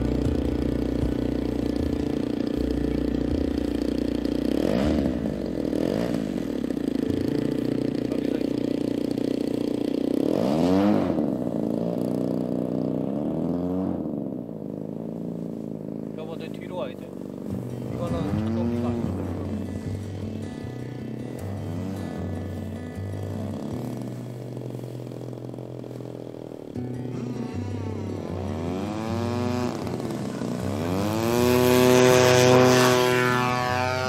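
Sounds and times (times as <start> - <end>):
model plane engine revving: 0.0 - 34.0.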